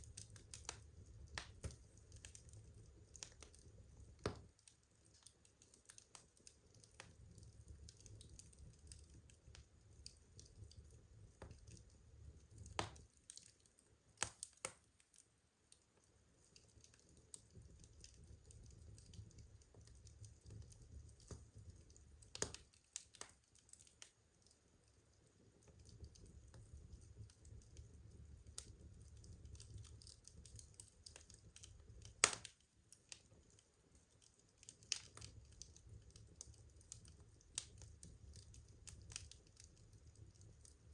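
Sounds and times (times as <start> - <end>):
burning wood crackling: 0.0 - 15.2, 16.4 - 40.9.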